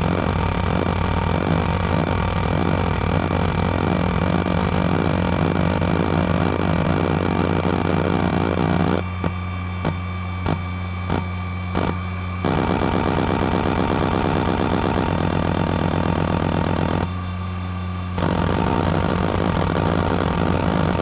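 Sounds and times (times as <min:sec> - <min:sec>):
hard drive spinning hum and whine: 0:00.0 - 0:21.0
hard drive seek clicks: 0:00.3 - 0:17.1, 0:18.2 - 0:21.0.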